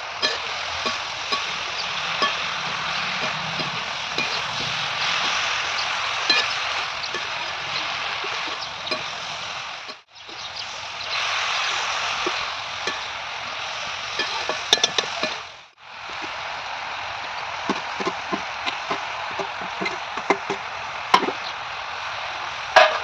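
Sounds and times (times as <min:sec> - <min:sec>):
utensils knocking against pan: 0:00.0 - 0:15.5, 0:17.6 - 0:21.5
vegetables sizzling in a pan: 0:00.0 - 0:23.0.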